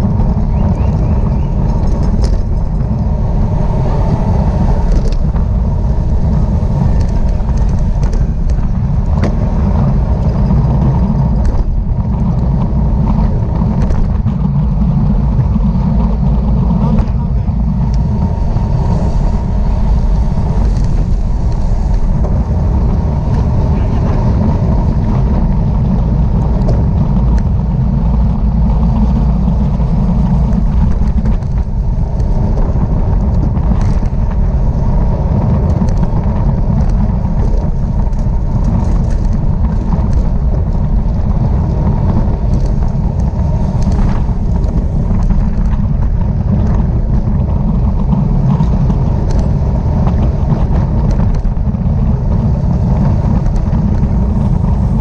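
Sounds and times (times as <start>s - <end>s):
rolling road noise: 0.0s - 55.0s
wind buffeting microphone: 0.0s - 55.0s.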